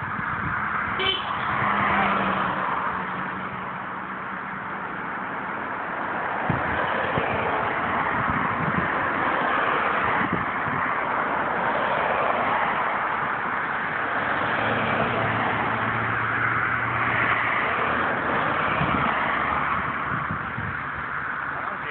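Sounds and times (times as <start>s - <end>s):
road traffic passing: 0.0s - 21.9s.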